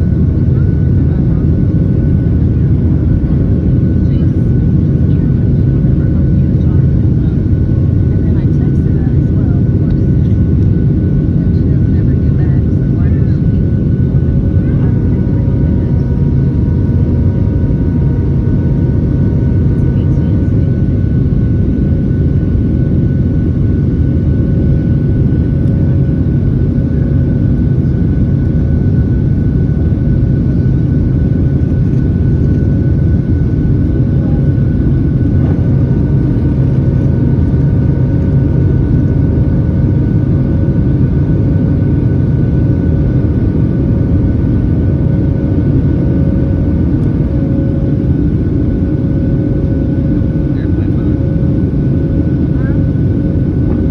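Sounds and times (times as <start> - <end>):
airplane cabin engine roar: 0.0 - 53.9.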